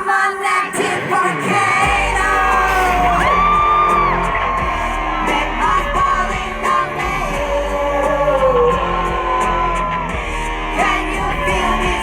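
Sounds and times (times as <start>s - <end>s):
pop-rock song over sound system: 0.0s - 12.0s
wordless vocal notes: 0.0s - 12.0s
heavy bass: 1.8s - 12.0s.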